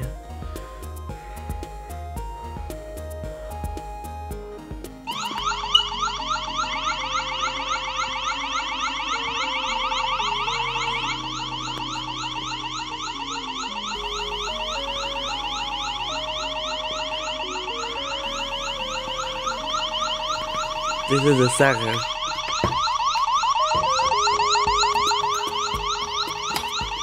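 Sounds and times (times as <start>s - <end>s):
electronic siren whooping: 5.1s - 27.0s.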